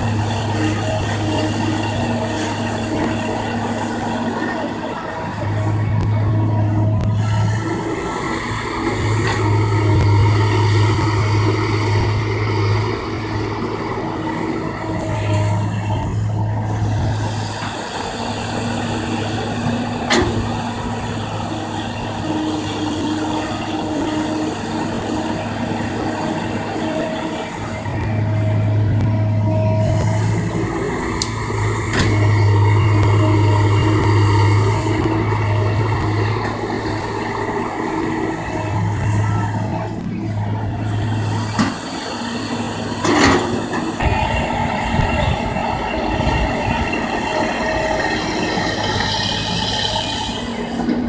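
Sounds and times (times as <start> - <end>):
excavator diesel engine running: 0.0 - 51.0
high whine: 0.0 - 51.0.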